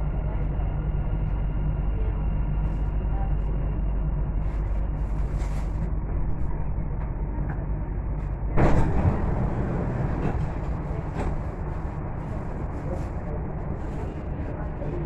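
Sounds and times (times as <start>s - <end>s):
train rumbling to a stop: 0.0s - 15.0s.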